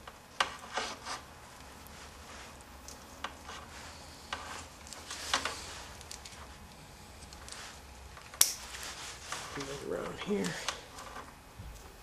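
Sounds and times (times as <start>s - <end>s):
tape crackles and ticks: 1.5s - 12.0s.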